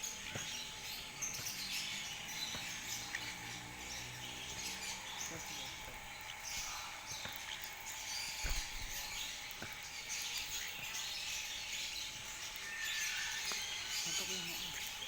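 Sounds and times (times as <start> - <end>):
caged birds chirping and twittering: 0.0 - 15.0.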